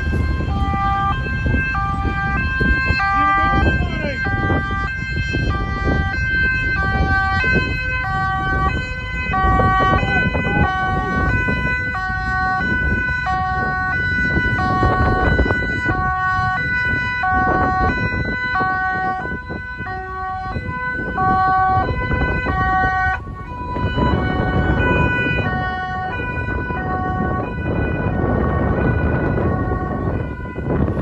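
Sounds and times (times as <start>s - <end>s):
ambulance two-tone siren: 0.0s - 31.0s
low rumble of idling traffic: 0.0s - 31.0s.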